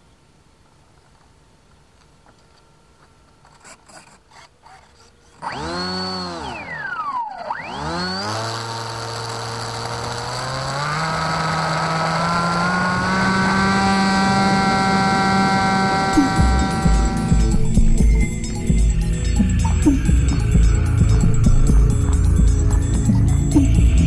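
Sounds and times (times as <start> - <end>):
electric motor and propeller whine: 3.4 - 24.0.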